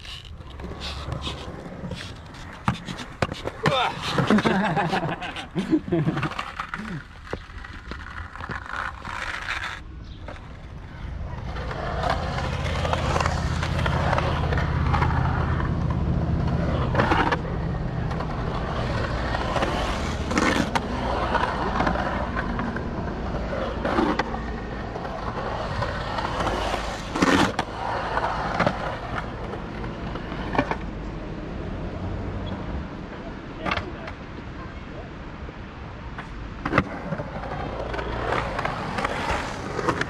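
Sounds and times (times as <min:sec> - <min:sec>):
skateboard wheels rumbling: 0:00.0 - 0:34.5, 0:36.0 - 0:40.0.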